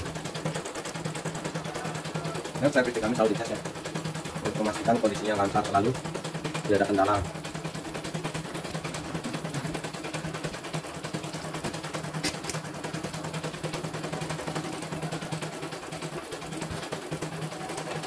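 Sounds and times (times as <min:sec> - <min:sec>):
embroidery machine needle rattling: 0:00.0 - 0:18.0
motor hum: 0:00.0 - 0:18.0.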